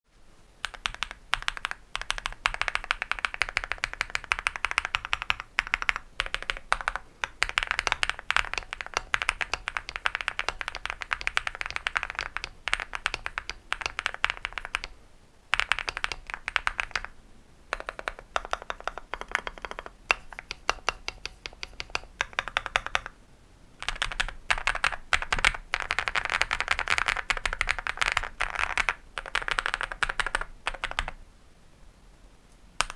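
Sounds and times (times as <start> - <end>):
mechanical keyboard typing: 0.6 - 23.1, 23.8 - 31.2.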